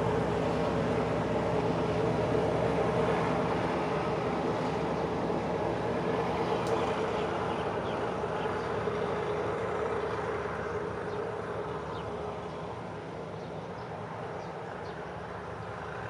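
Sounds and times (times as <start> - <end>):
passenger train pulling away: 0.0 - 16.0.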